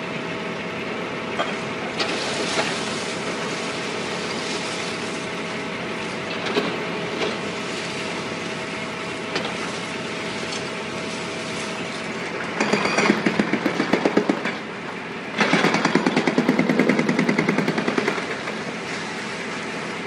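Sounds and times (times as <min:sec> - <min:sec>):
excavator running: 0:00.0 - 0:20.0.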